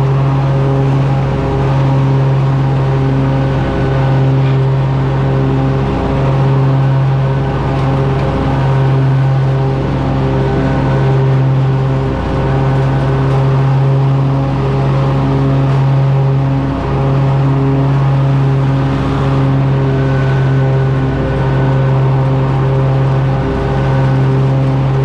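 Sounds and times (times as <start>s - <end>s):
riding mower engine humming: 0.0s - 25.0s.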